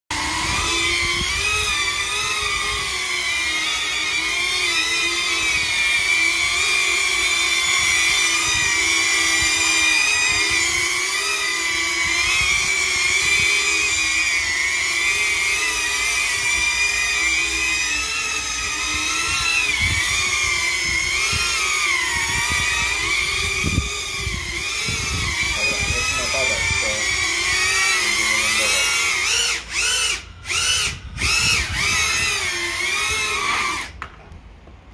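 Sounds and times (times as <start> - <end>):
drone motors buzzing whine: 0.1 - 34.1.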